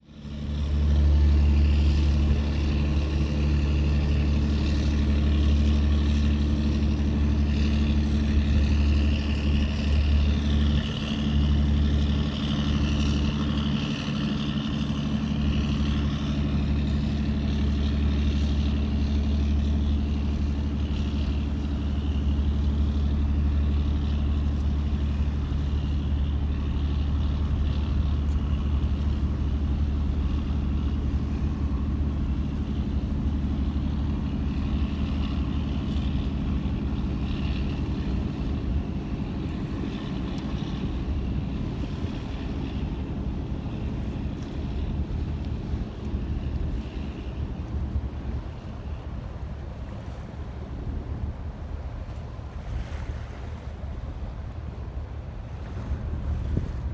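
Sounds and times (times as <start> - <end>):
ship engine humming: 0.0 - 56.9
hiss of wind or water: 0.2 - 56.9.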